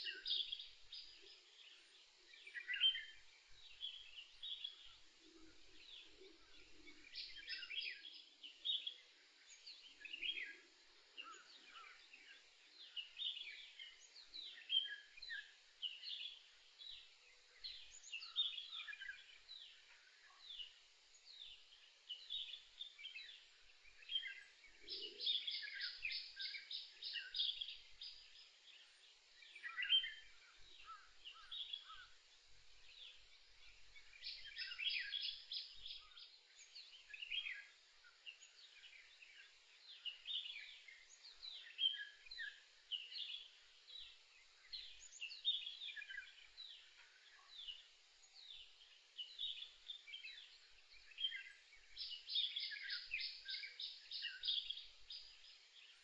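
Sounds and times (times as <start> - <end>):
songbirds chirping and whistling: 0.0 - 56.0.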